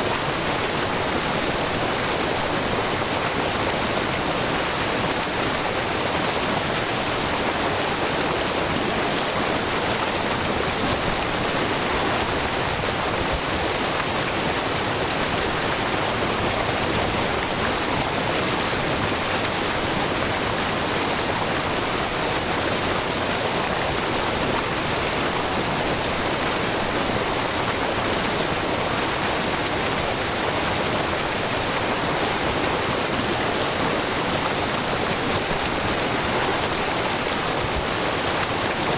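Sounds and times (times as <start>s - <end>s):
waterfall splashing over rock: 0.0s - 38.9s.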